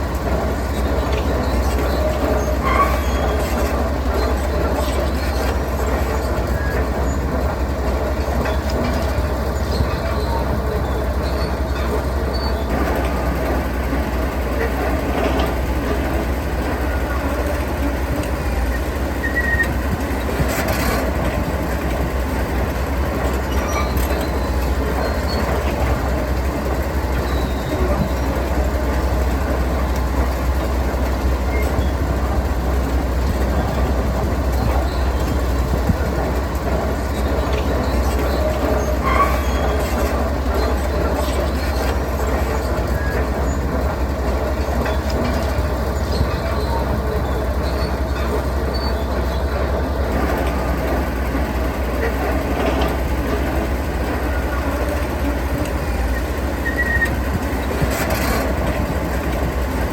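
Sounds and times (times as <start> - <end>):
diesel machinery rumbling: 0.0 - 59.9.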